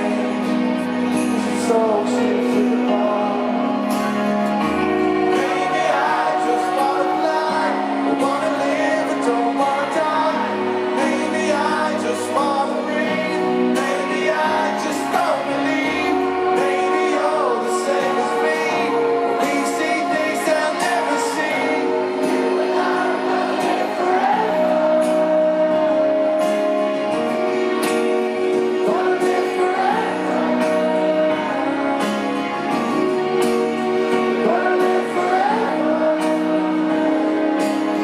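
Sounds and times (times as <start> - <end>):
live rock band: 0.0 - 38.0
person singing: 0.0 - 38.0.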